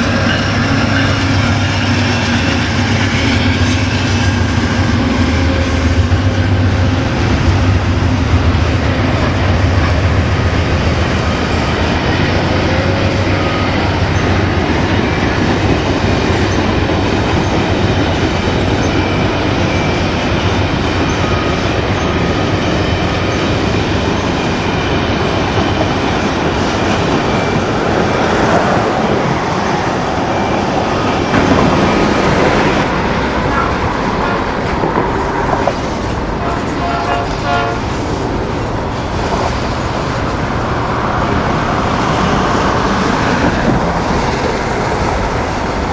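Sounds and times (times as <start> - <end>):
train wheels on rail: 0.0 - 45.9.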